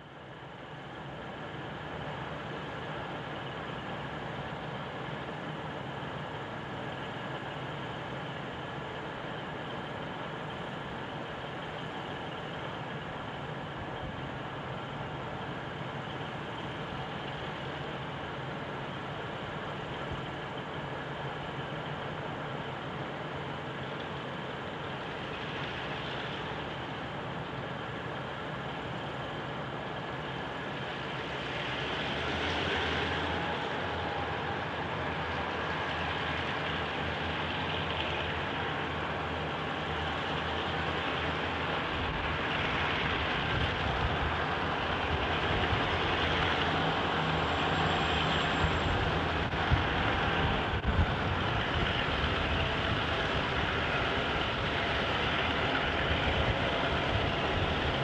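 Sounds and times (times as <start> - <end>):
diesel locomotive engines droning: 0.0 - 58.0.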